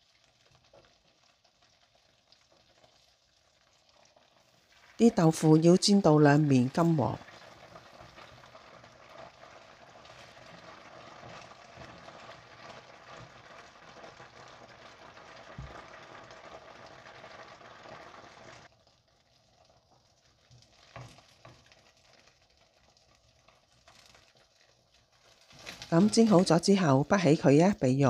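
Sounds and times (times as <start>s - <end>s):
tofu sizzling in hot oil: 0.0s - 5.1s, 6.6s - 26.7s.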